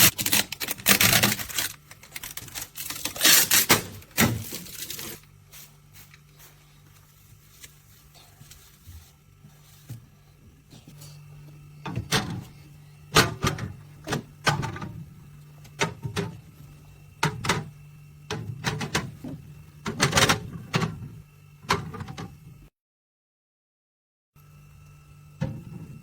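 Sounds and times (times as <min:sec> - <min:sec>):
low steady hum: 0:00.0 - 0:22.7.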